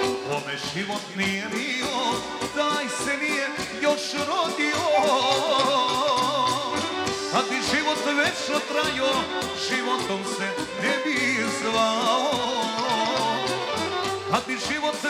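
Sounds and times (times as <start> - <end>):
live folk band music: 0.0 - 15.0
person singing: 0.0 - 15.0.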